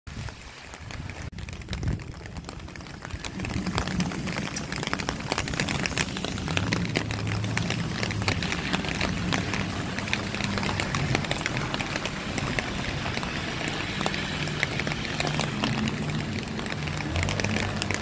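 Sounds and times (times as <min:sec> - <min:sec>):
rain: 0:00.1 - 0:18.0
low engine hum: 0:03.4 - 0:18.0.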